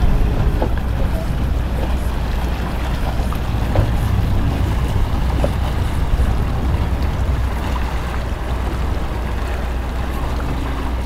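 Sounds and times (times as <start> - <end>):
motorboat engine rumbling: 0.0 - 11.0
wind noise: 0.0 - 11.0.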